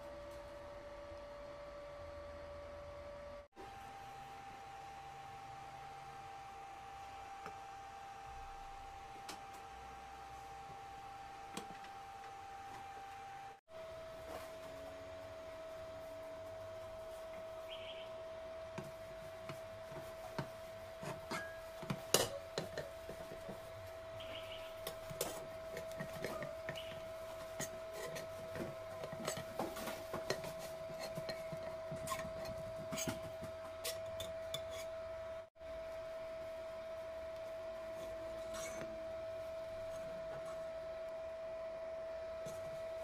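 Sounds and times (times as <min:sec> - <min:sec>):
steady high hum: 0:00.0 - 0:43.0.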